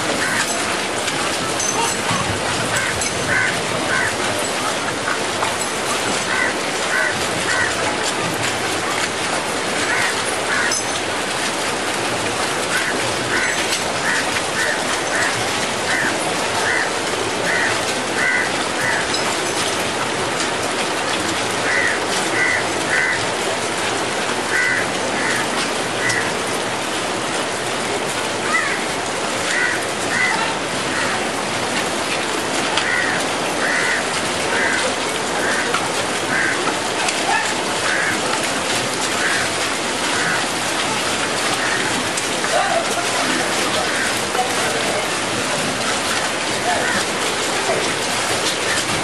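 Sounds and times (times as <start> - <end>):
rain hissing: 0.0 - 49.0.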